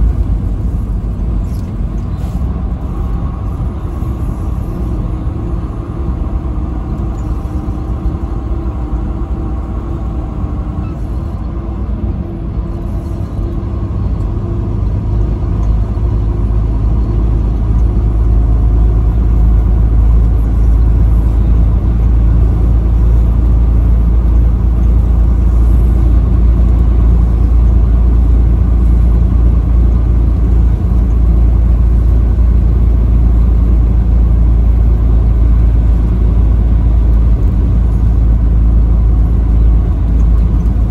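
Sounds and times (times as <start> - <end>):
vehicle engine and road rumble: 0.0 - 40.9.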